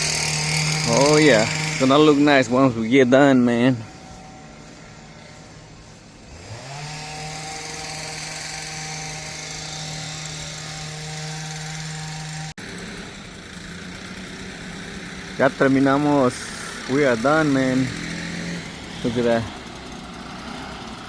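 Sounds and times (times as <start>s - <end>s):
small petrol engine revving: 0.0s - 21.0s.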